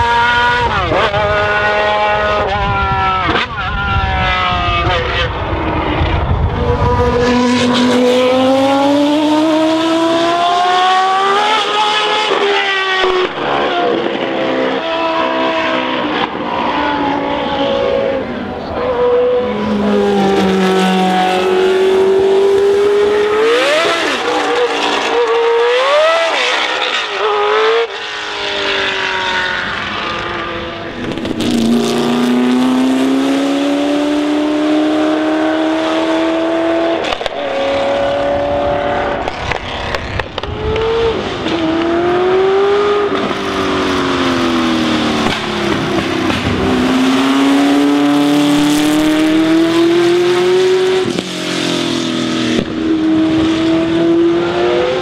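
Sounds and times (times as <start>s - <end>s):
racing car engines at full throttle: 0.0s - 55.0s.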